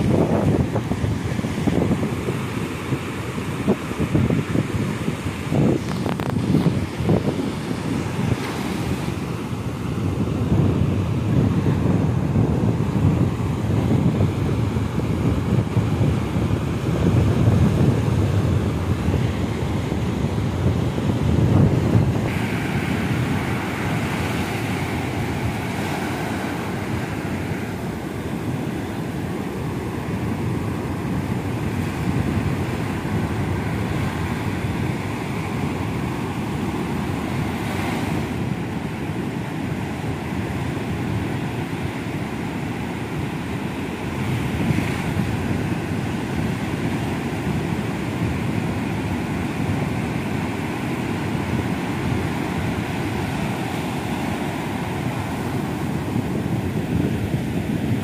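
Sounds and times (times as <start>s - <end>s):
ocean surf breaking on beach: 0.0s - 58.0s
wind buffeting microphone: 0.0s - 58.0s.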